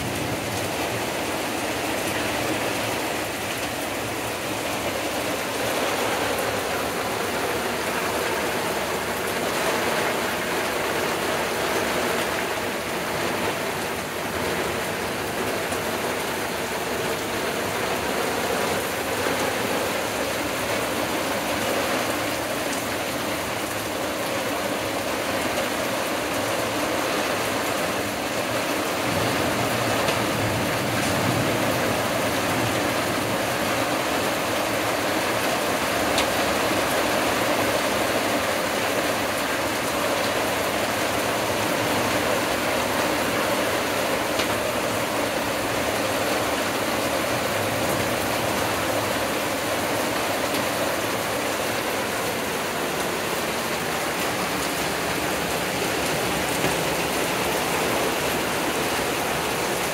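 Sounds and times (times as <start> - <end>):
heavy rain on trees and wooden deck: 0.0 - 59.9.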